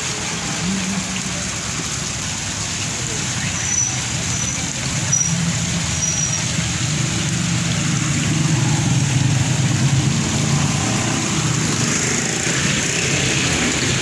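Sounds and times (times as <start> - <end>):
fountain water pouring: 0.0 - 14.0.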